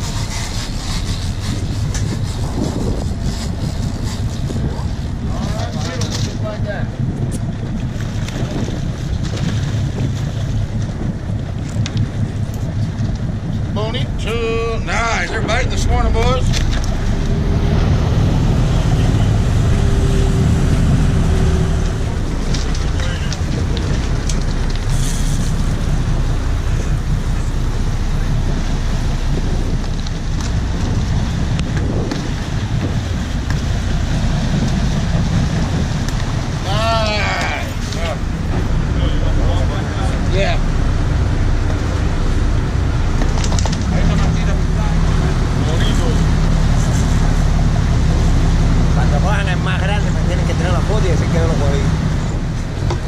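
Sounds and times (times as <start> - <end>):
boat engine running: 0.0 - 53.0
water washing along hull: 0.0 - 53.0
wind buffeting microphone: 0.0 - 53.0.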